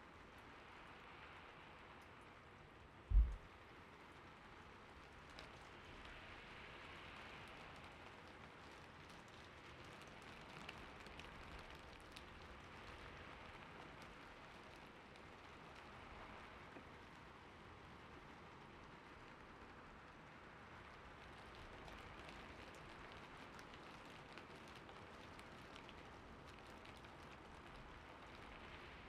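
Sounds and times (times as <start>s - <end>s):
faint rain: 0.0s - 29.0s.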